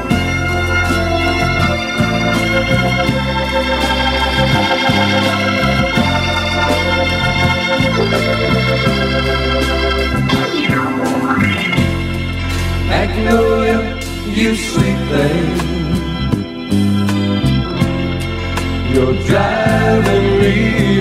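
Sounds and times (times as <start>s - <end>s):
sliding guitar notes: 0.0s - 21.0s
soft country-rock instrumental: 0.0s - 21.0s.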